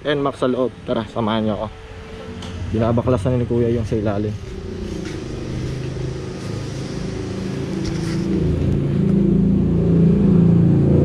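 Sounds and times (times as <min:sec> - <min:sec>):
vehicle engine running: 0:01.3 - 0:11.0.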